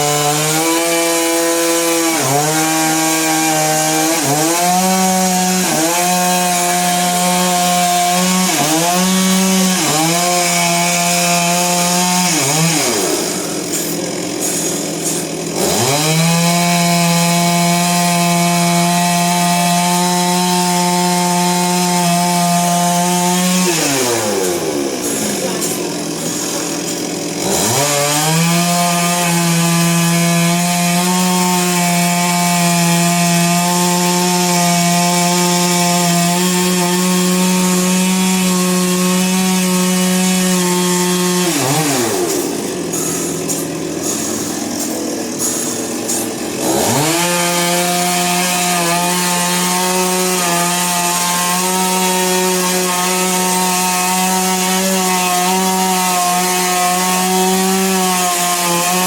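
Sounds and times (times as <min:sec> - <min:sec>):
sawmill saw motor running: 0:00.0 - 0:59.0.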